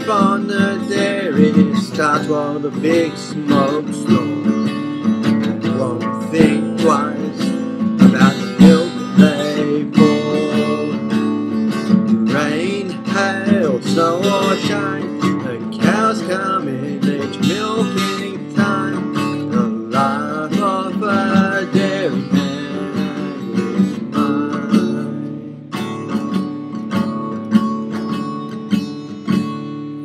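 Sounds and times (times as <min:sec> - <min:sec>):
man singing: 0:00.0 - 0:26.2
acoustic guitar strumming: 0:00.0 - 0:30.0.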